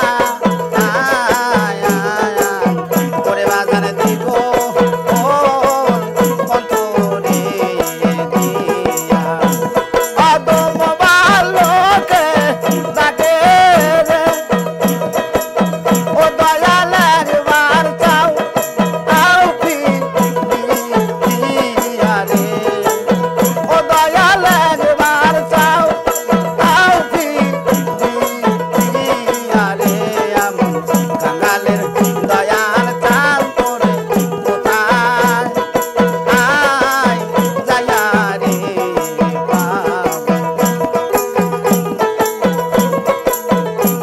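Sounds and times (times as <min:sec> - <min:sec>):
plucked string melody: 0:00.0 - 0:44.0
tambourine with jingles: 0:00.0 - 0:44.0.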